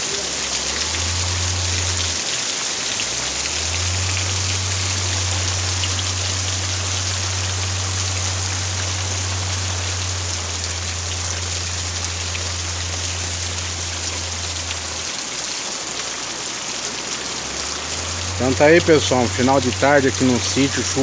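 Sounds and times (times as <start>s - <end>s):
heavy rain pouring: 0.0s - 21.0s
water streaming across yard: 0.0s - 21.0s.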